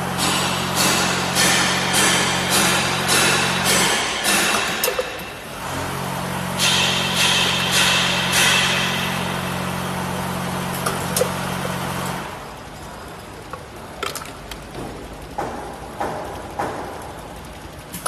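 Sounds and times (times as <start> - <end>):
feeding machine humming: 0.0 - 18.0.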